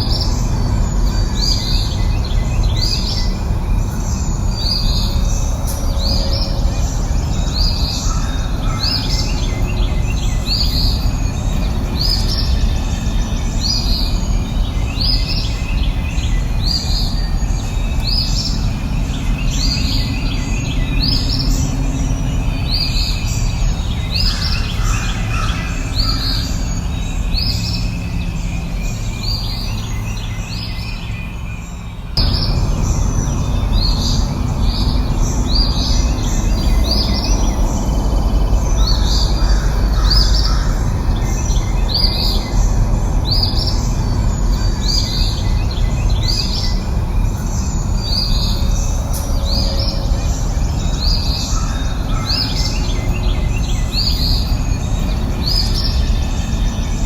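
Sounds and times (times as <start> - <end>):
birds chirping: 0.0 - 57.0
low rushing background noise: 0.0 - 57.0.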